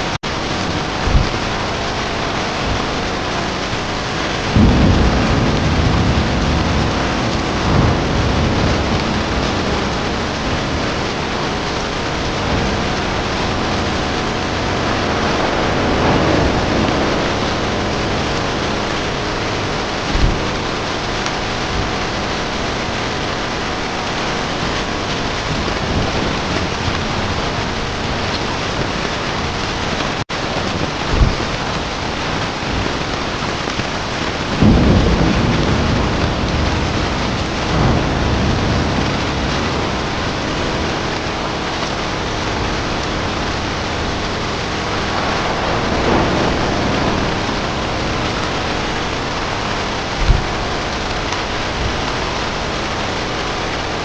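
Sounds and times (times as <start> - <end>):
heavy rain falling: 0.0 - 54.0
thunder rolling: 0.0 - 54.0.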